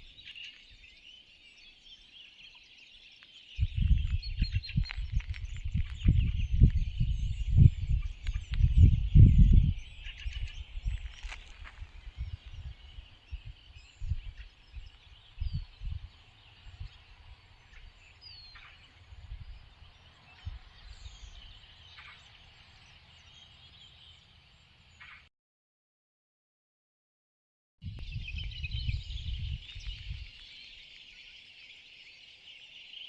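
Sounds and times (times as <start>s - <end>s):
birds chirping: 0.0s - 25.3s, 27.8s - 33.0s.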